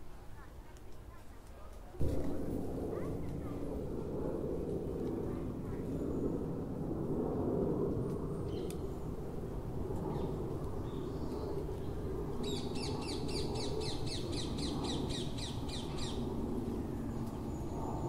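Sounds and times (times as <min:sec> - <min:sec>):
low background rumble: 0:02.0 - 0:18.0.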